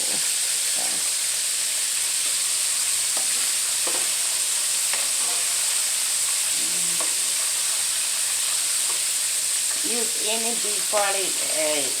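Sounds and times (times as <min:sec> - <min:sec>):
chicken wings deep-frying in oil: 0:00.0 - 0:12.0.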